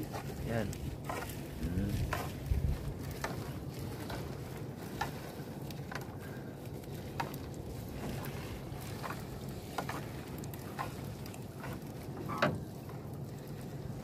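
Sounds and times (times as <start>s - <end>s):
low rumble of water and wind: 0.0s - 14.0s.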